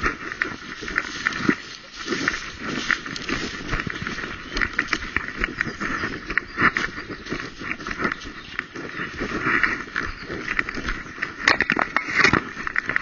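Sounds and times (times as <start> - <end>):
running footsteps through dry leaves: 0.0 - 13.0.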